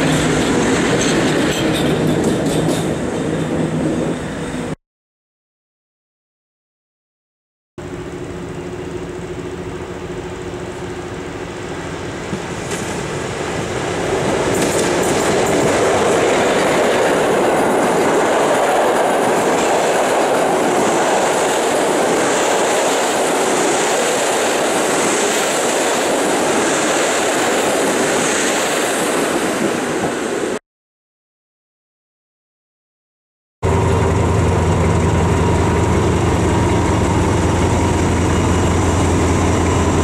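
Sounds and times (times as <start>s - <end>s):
train wheels rumbling on rails: 0.0s - 4.8s, 8.2s - 30.6s, 33.6s - 40.0s.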